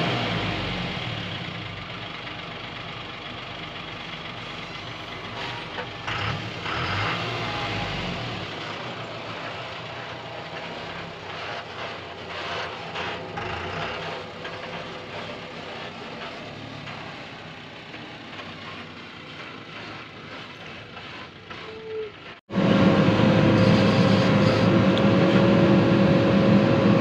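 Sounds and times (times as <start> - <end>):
diesel truck pulling away: 0.0 - 27.0.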